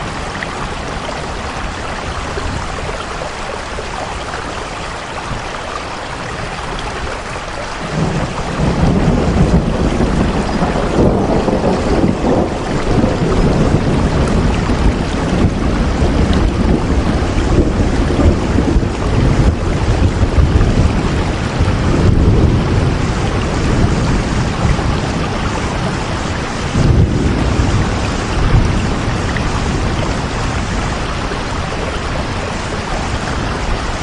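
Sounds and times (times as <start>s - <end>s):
heavy rain pouring: 0.0s - 34.0s
deep thunder rumble: 6.1s - 34.0s.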